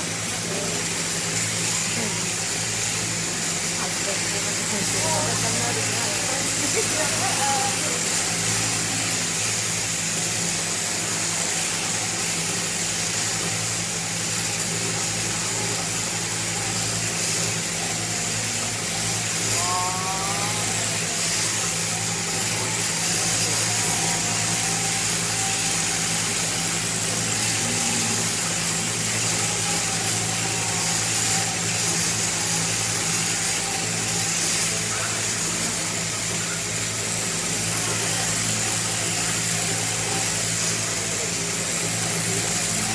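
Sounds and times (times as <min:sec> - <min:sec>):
shearing cutter buzzing: 0:00.0 - 0:42.9
shearing machine motor humming: 0:00.0 - 0:42.9.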